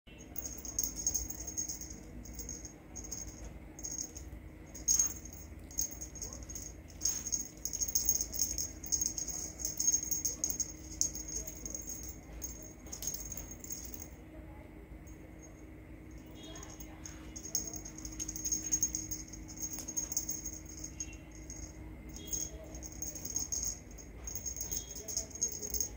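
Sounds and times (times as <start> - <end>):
dry high-pitched rattling: 0.2 - 14.1, 16.2 - 25.9.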